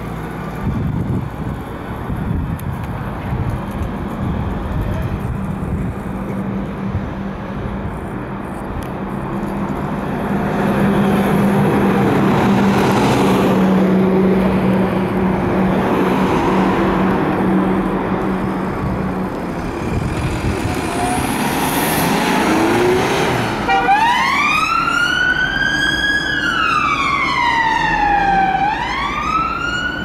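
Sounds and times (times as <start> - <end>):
tyre and road noise: 0.0 - 30.0.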